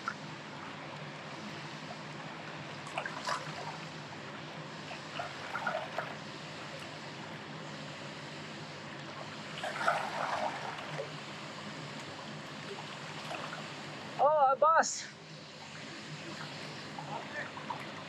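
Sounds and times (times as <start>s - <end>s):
river water flowing: 0.0s - 18.0s
wind: 0.0s - 18.0s.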